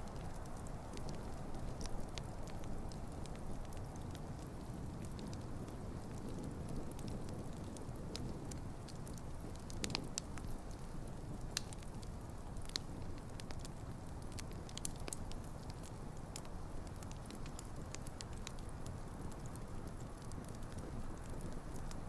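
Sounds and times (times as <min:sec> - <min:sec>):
campfire flames rushing: 0:00.0 - 0:22.0
logs crackling and popping: 0:00.0 - 0:22.0.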